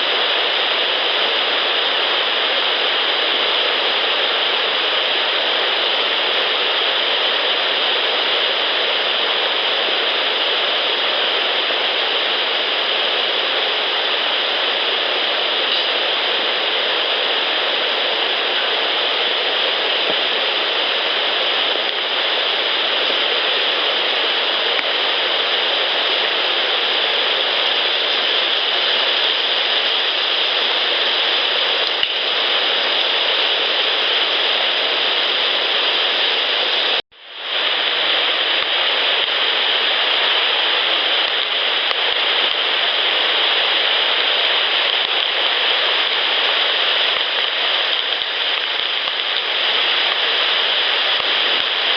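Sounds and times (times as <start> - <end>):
loud steady hiss: 0.0 - 51.9.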